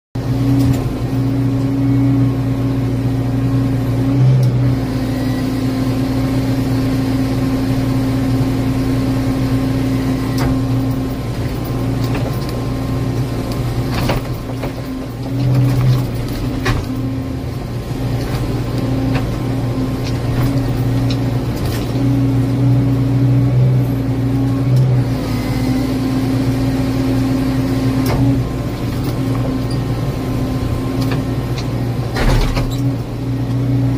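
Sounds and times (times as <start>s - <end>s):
excavator engine and hydraulics hum: 0.2s - 33.9s.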